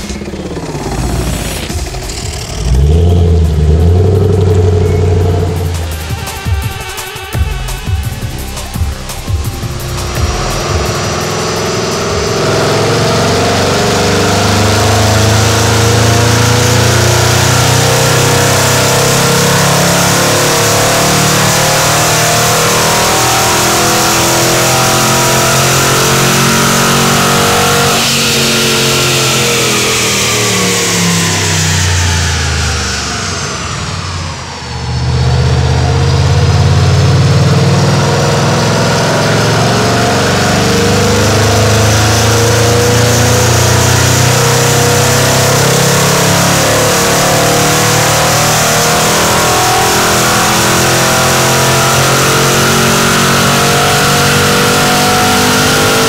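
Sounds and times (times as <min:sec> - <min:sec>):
car engine revving high: 0:00.0 - 0:56.0.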